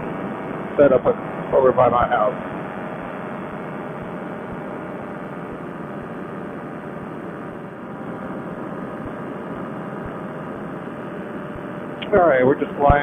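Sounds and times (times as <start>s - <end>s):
paramotor engine drone: 0.0s - 13.0s
propeller and air noise: 0.0s - 13.0s.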